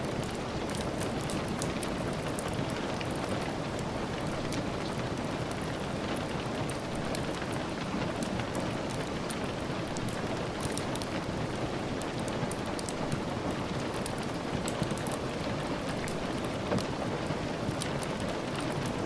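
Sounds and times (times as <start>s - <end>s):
small sharp crackles and ticks: 0.0s - 17.0s.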